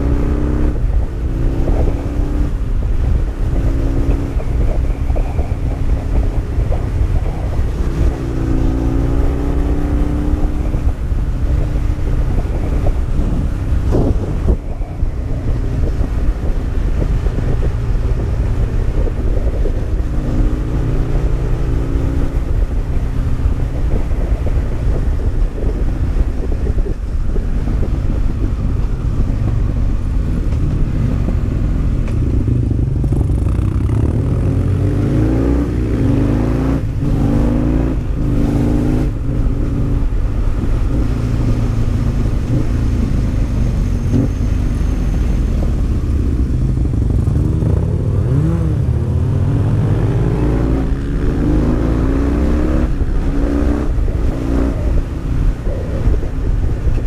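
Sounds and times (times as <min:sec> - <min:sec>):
motorcycle engine: 0:00.0 - 0:57.0
wind rumble on microphone: 0:00.0 - 0:57.0.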